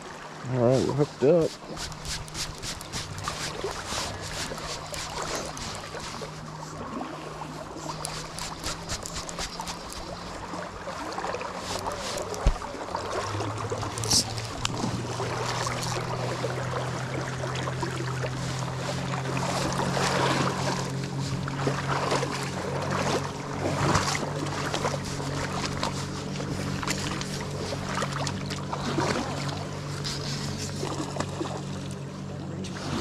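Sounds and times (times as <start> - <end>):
rushing river water: 0.0 - 33.0
low motor drone: 0.4 - 33.0
fish splashing in water: 1.2 - 31.9.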